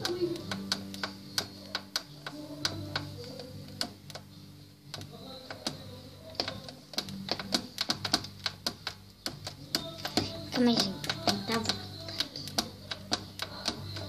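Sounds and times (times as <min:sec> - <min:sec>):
fingers tapping device keys: 0:00.0 - 0:04.3, 0:04.9 - 0:14.0.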